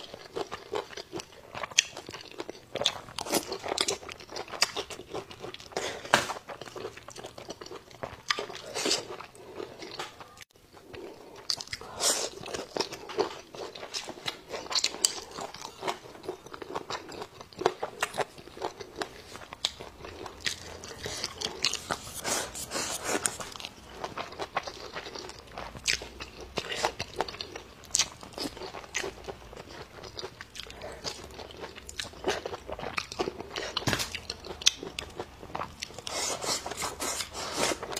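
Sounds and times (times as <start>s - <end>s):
crunching and wet chewing: 0.0s - 37.9s.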